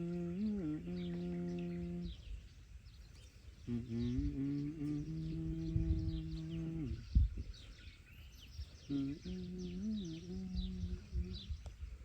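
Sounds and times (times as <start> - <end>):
birds chirping: 0.0 - 12.0
low wavering hum: 0.0 - 12.0.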